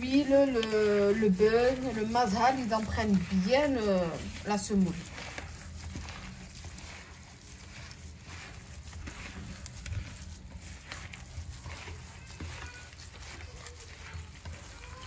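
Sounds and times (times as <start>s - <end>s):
dough scraping against clay bowl: 0.0s - 15.0s.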